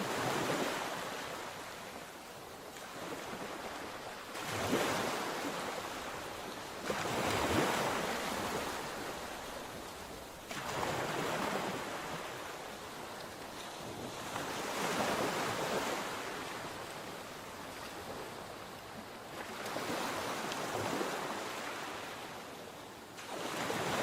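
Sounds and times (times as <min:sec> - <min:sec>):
sea waves breaking on shore: 0:00.0 - 0:24.0.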